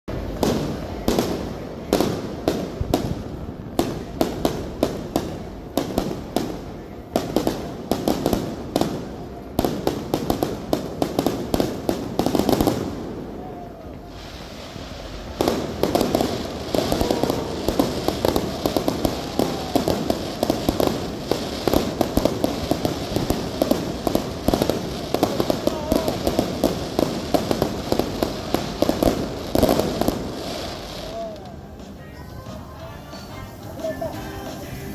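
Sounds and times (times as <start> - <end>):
fireworks bangs and crackling: 0.1 - 34.9.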